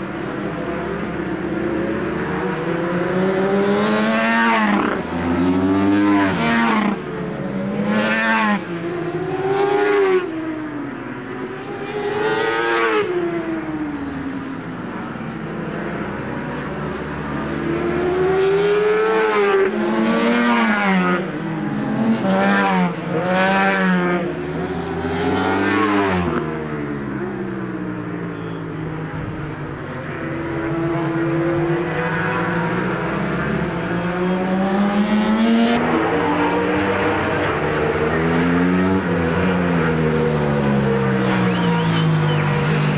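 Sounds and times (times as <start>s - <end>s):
racing motorcycles passing: 0.0s - 42.9s.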